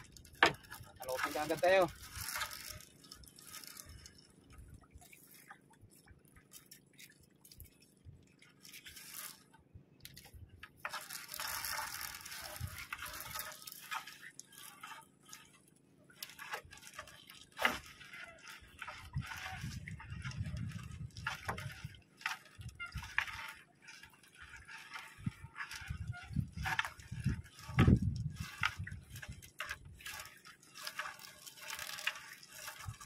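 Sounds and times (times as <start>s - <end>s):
wet net rustling and hissing: 0.0s - 6.0s, 8.4s - 9.5s, 10.9s - 15.6s, 16.2s - 33.0s.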